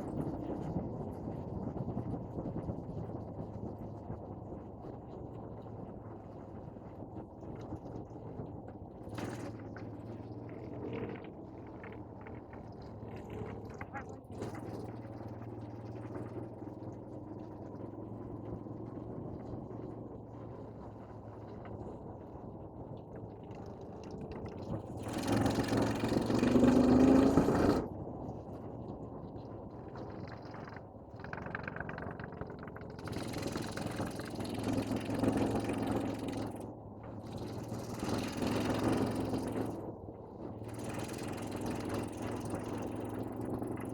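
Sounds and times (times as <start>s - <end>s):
engine running with low hum: 0.0s - 43.9s.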